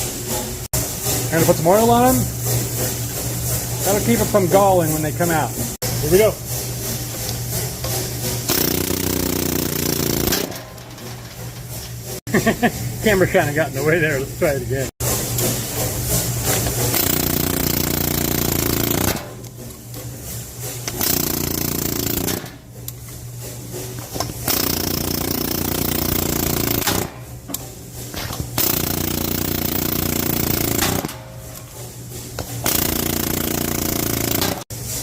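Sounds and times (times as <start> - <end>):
pneumatic air hammer hammering: 0.0 - 12.3, 15.0 - 34.9.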